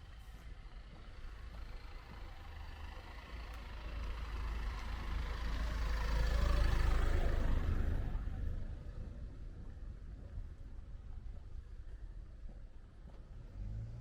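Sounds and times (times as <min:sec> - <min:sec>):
vehicle engine approaching: 0:00.6 - 0:11.1, 0:13.1 - 0:14.0.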